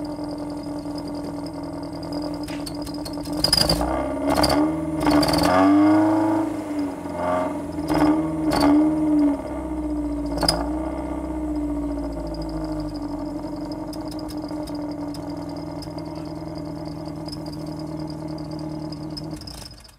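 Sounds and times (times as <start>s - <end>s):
car engine idling with turbo whistle: 0.0s - 19.9s.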